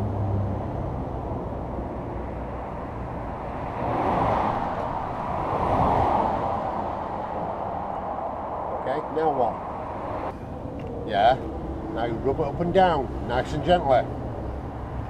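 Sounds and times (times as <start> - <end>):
road traffic rumble: 0.0 - 15.0
vehicles passing by: 0.0 - 15.0.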